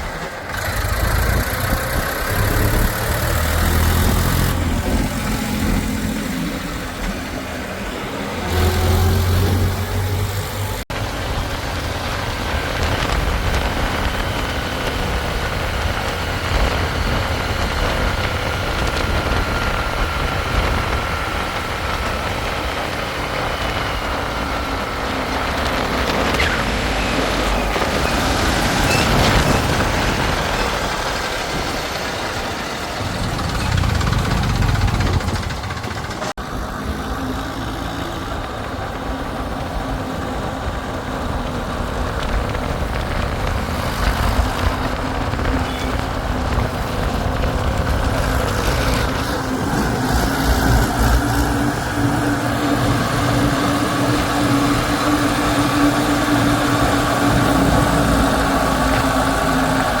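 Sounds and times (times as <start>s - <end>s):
heavy machinery diesel engine: 0.0s - 60.0s.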